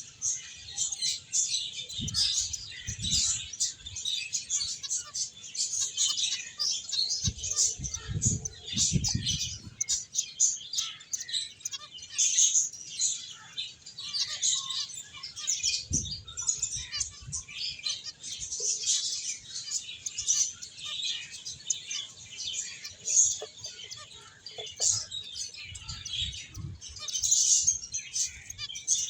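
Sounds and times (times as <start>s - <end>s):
finches chirping: 0.0s - 29.0s.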